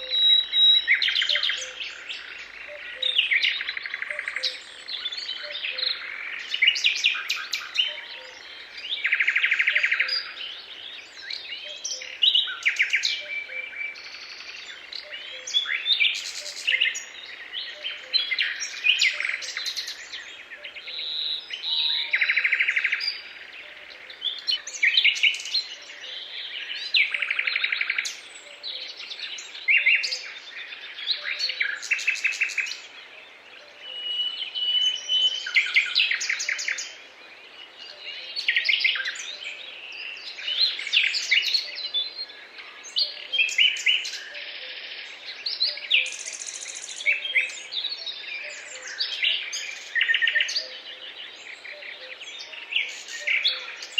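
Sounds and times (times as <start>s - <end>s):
birds singing: 0.0s - 53.9s.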